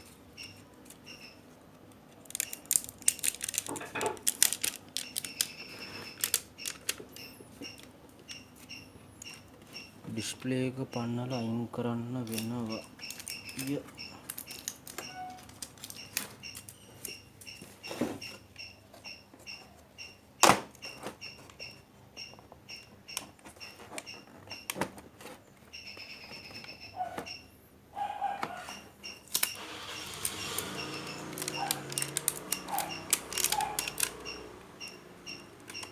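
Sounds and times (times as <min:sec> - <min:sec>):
clicks and knocks of tools and plastic: 0:00.4 - 0:10.6, 0:12.2 - 0:19.8, 0:20.4 - 0:27.4, 0:28.4 - 0:35.9.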